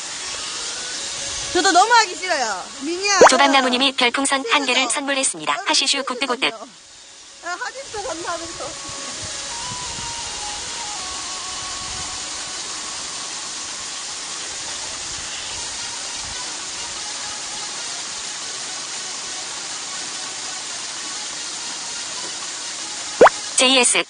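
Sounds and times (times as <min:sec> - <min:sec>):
waterfall pouring into a pool: 0:00.0 - 0:24.0.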